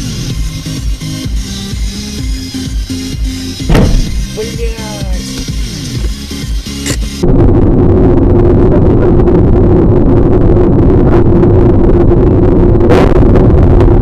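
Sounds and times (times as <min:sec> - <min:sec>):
vehicle drone with road noise: 0:00.0 - 0:14.0.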